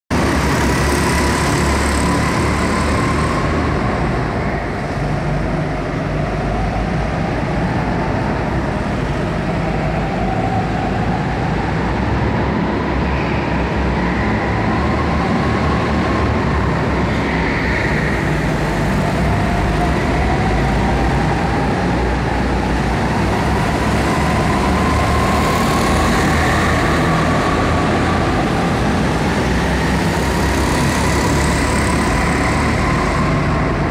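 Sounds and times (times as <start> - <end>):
go-kart motors: 0.1 - 33.9.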